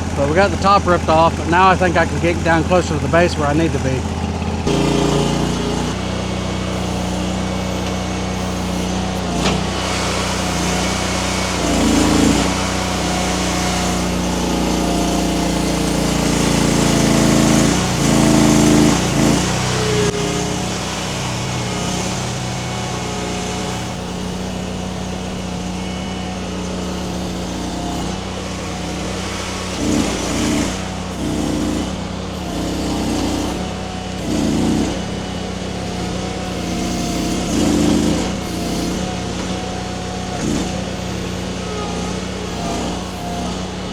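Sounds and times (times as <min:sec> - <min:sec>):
small engine surging under load: 0:00.0 - 0:43.9.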